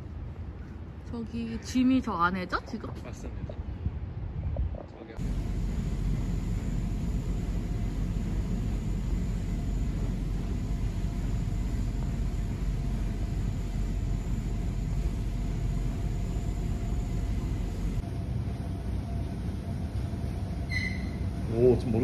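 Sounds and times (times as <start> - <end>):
faint constant hum: 0.0 - 22.0.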